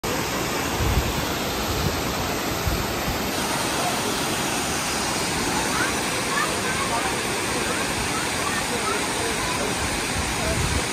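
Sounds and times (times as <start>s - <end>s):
waterfall rushing over rocks: 0.0s - 10.9s.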